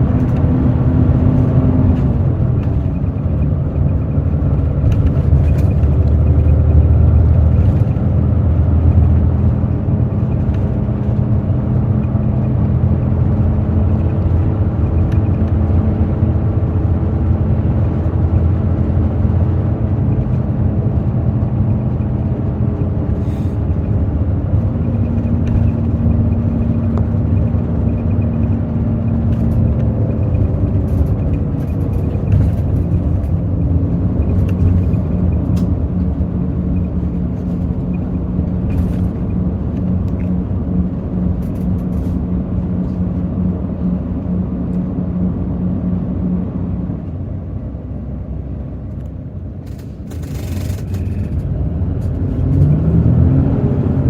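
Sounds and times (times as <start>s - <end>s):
bus diesel engine running: 0.0s - 54.0s
road rumble: 0.0s - 54.0s.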